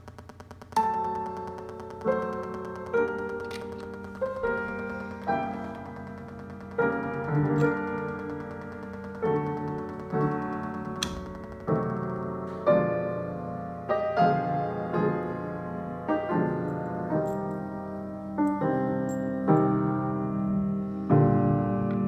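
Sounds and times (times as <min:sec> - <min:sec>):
slow piano chords: 0:00.7 - 0:22.0.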